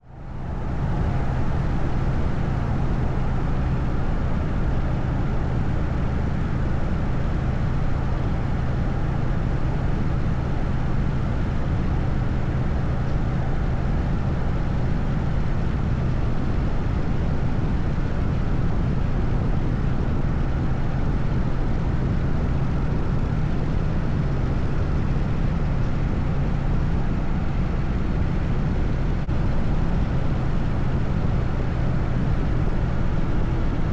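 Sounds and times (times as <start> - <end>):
wind and road noise: 0.0 - 33.9.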